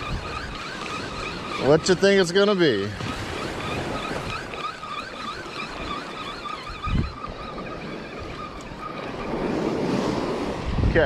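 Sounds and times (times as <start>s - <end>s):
surf: 0.0s - 11.0s
wind: 0.0s - 11.0s
fishing reel gears whining: 0.1s - 9.3s.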